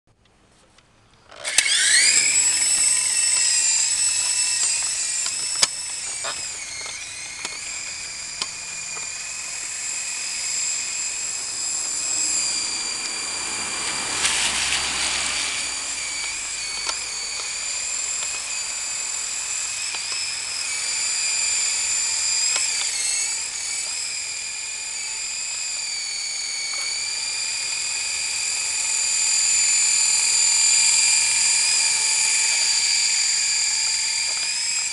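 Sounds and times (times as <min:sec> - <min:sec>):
toy helicopter motor whine: 0:01.3 - 0:34.9.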